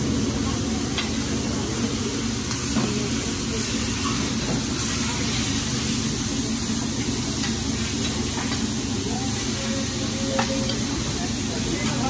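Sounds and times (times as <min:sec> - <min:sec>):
meat sizzling on a griddle: 0:01.0 - 0:12.0.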